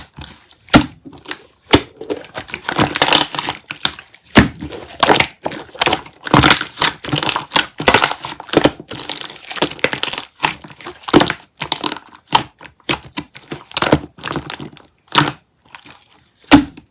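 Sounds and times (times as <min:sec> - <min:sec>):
candy wrapper crinkling and chewing: 0:00.0 - 0:16.5.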